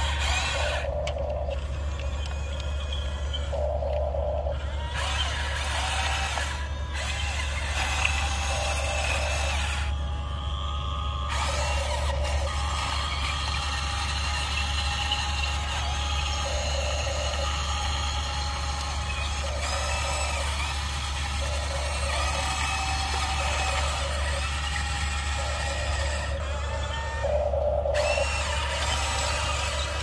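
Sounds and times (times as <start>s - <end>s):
toy excavator motors whining: 0.0s - 30.0s.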